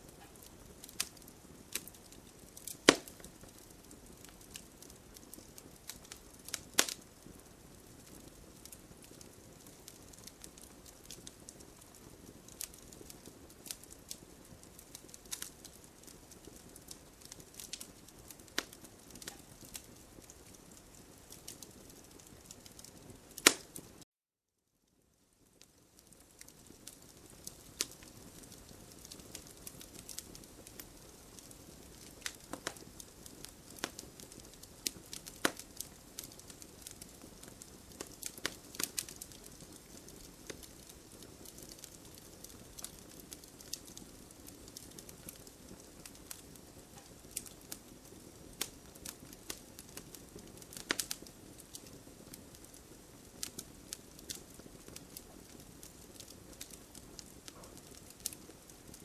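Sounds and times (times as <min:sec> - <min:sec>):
campfire crackling: 0:00.0 - 0:24.0, 0:24.9 - 0:59.0.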